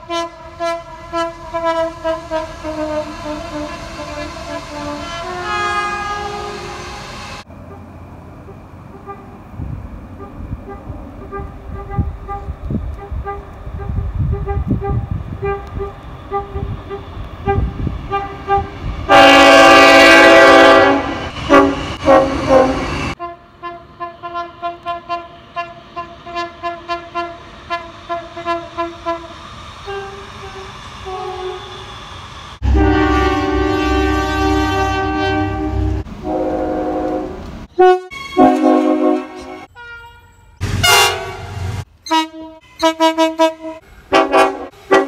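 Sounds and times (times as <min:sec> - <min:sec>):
train horn blasts: 0:00.0 - 0:07.9, 0:08.9 - 0:09.4, 0:10.2 - 0:31.9, 0:32.6 - 0:45.0.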